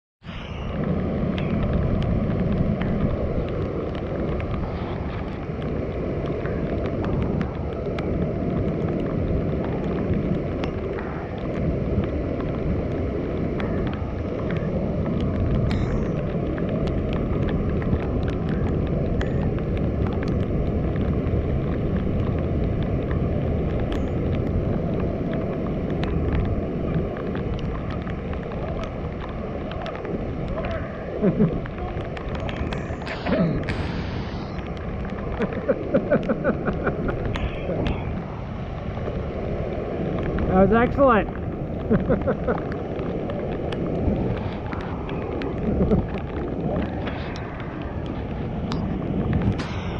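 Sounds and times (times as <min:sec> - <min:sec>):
wind buffeting microphone: 0:00.2 - 0:49.9
waterfall and rapids roaring: 0:00.3 - 0:49.9.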